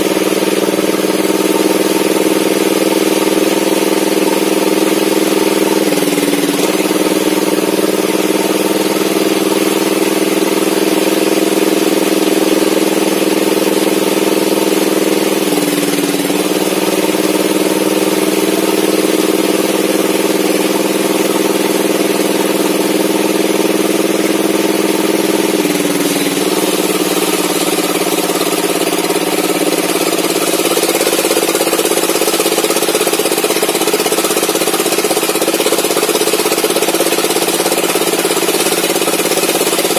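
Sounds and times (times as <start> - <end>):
engine-driven saw cutting wood: 0.0 - 39.9.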